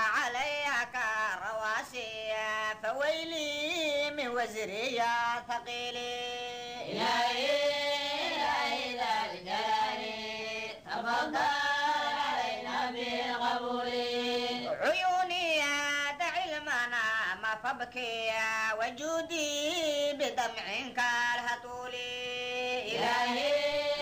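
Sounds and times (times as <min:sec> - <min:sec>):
person singing devotional chant: 0:00.0 - 0:24.0.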